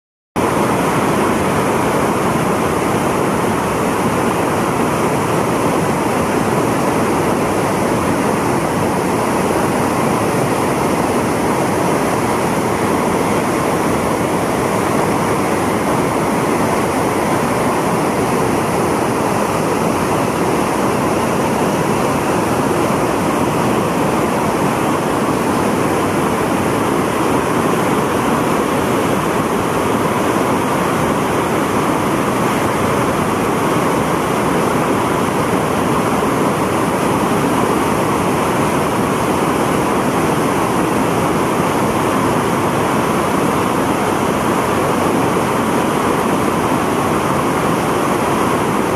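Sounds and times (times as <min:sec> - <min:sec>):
waterfall roaring: 0:00.4 - 0:48.9.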